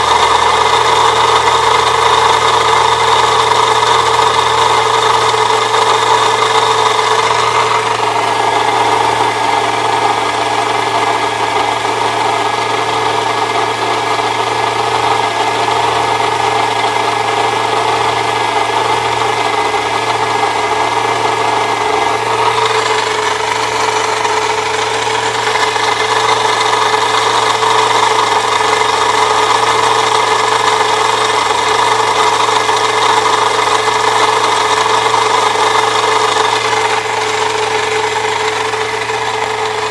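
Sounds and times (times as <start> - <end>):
car engine idling: 0.0 - 39.9
grinding scraping belt noise: 0.0 - 39.9.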